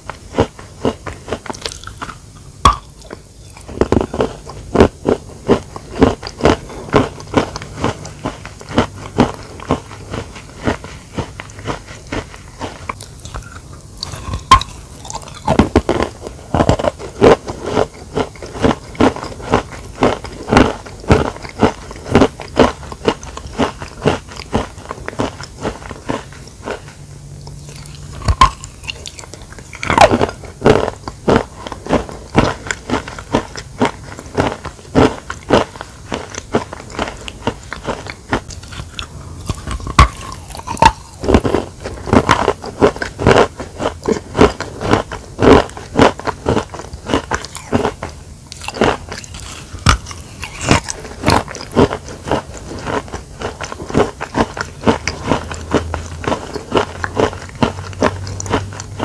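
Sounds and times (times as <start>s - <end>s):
crunchy chalk chewing: 0.0s - 59.0s.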